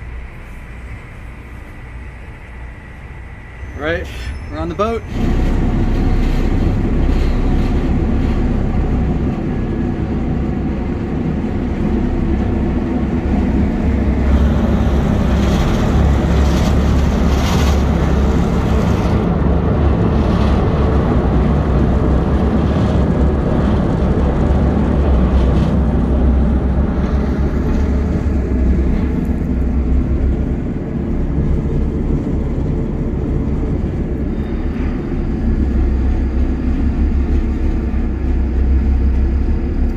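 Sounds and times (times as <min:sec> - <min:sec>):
ferry engine drone: 0:00.0 - 0:39.9.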